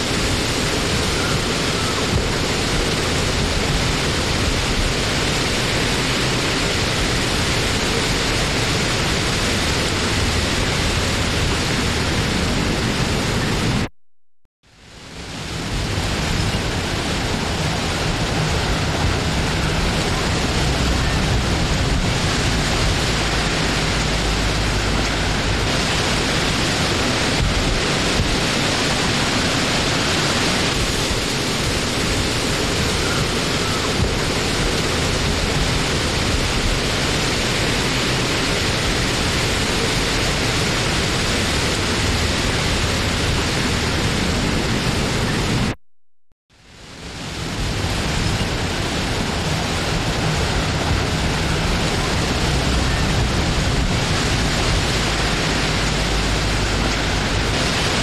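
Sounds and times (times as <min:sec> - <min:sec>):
wind blowing: 0:00.0 - 0:13.9, 0:14.7 - 0:45.8, 0:46.6 - 0:58.0.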